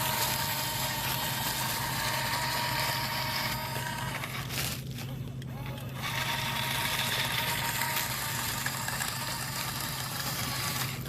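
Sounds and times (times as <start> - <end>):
steady mechanical hum: 0.0 - 11.0
thin high whine: 0.0 - 11.0.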